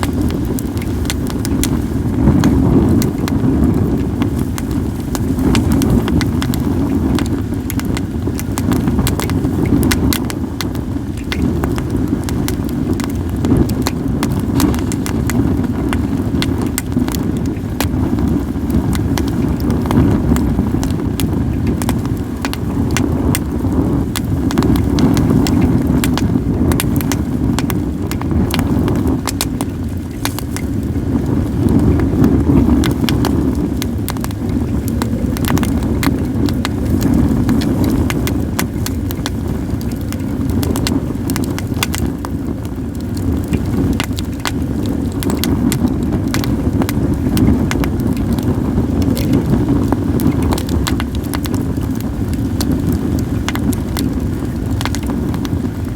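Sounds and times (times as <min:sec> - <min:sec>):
wind rumble on microphone: 0:00.0 - 0:55.9
wood fire crackling and popping: 0:00.0 - 0:55.9.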